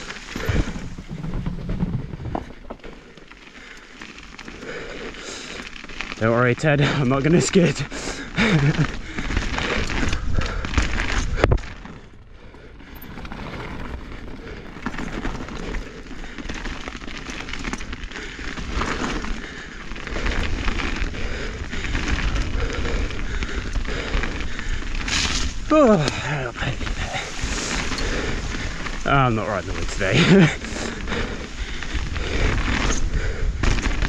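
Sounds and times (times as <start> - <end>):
bike tyres crunching over dirt: 0.0 - 34.0.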